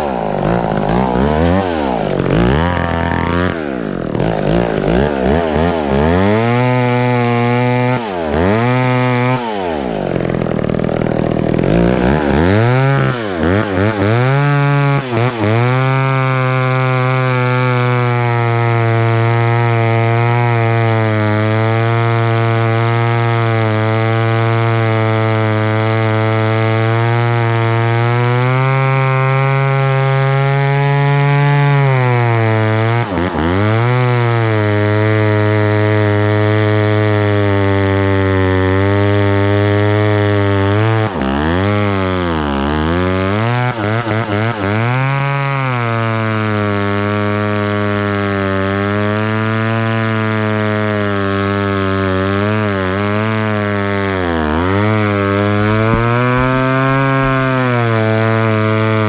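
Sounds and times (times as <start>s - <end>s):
chainsaw engine at high revs: 0.0s - 59.0s.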